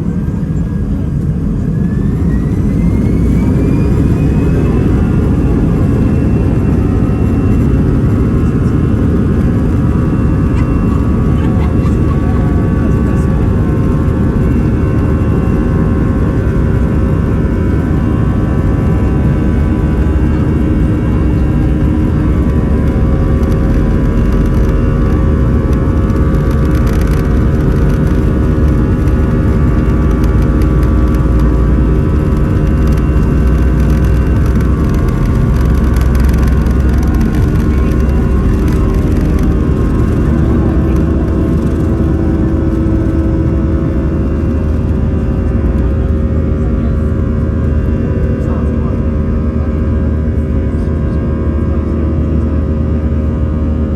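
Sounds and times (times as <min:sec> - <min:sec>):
jet engine drone in cabin: 0:00.0 - 0:53.9.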